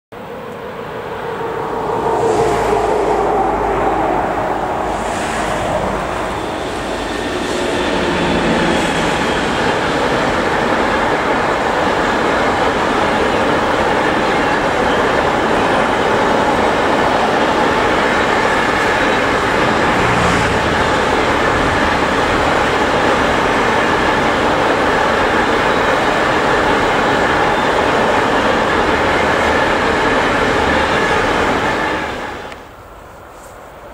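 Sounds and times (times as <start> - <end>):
freight train rumbling and rattling: 0.2 - 33.9.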